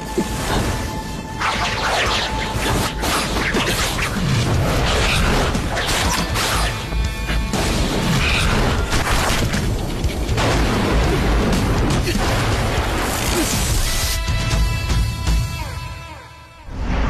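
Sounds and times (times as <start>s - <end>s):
dramatic orchestral music: 0.0s - 17.0s.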